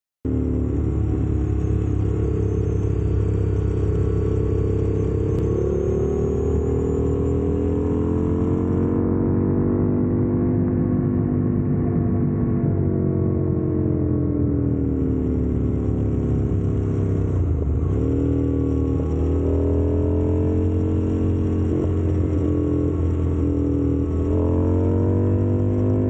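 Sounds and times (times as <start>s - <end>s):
motorcycle engine running: 0.3s - 26.0s
wind and road noise: 0.3s - 26.0s.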